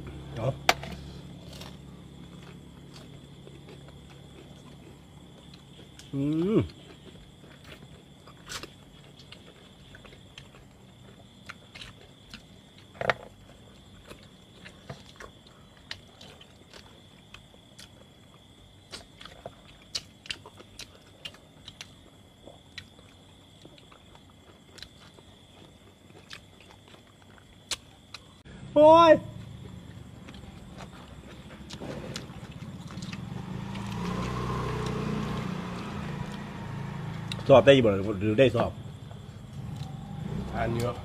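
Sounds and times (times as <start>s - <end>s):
chewing and crunching: 0.1s - 28.4s, 29.4s - 41.0s.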